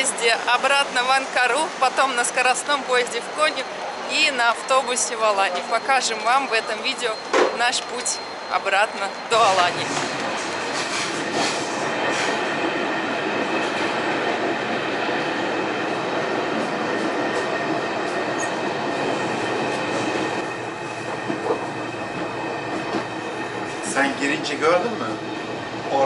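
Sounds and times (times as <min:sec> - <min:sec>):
train rumbling from inside carriage: 0:00.0 - 0:26.0.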